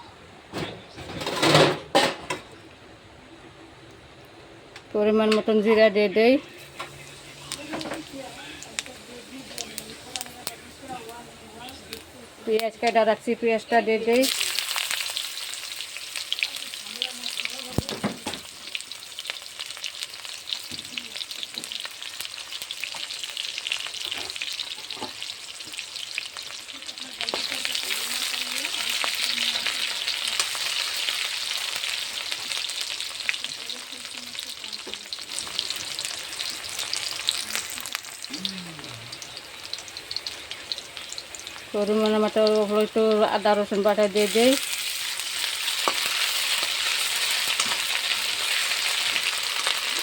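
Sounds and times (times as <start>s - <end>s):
onions sizzling in oil: 5.0s - 50.0s.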